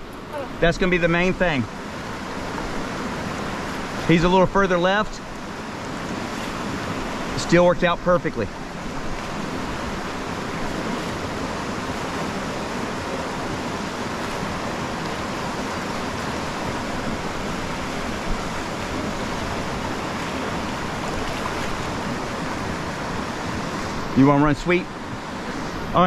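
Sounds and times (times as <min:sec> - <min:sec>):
whitewater rapid rushing over rocks: 0:00.0 - 0:26.0.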